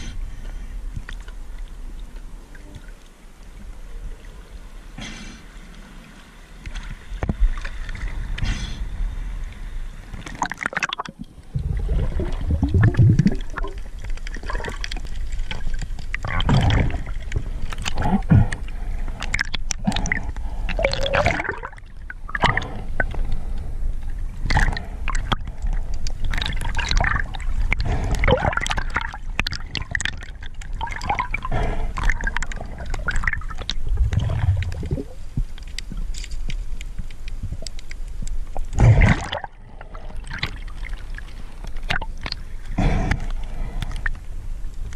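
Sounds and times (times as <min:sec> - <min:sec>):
underwater gurgling and sloshing: 0:00.0 - 0:44.9.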